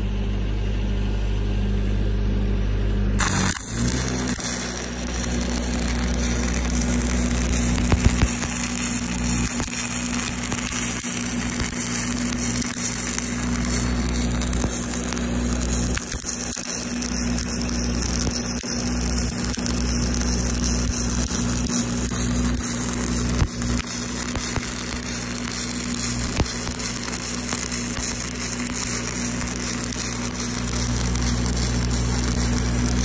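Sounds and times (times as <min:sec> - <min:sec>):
steady low hum: 0:00.0 - 0:33.0
welding arc crackling and sizzling: 0:03.2 - 0:33.0.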